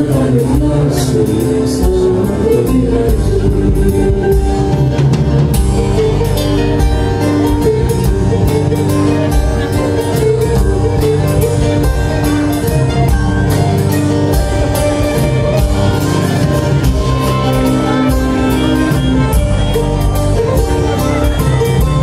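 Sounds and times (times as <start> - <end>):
acoustic guitar: 0.0 - 22.0
drum kit beat: 0.0 - 22.0
held melody line: 0.0 - 22.0.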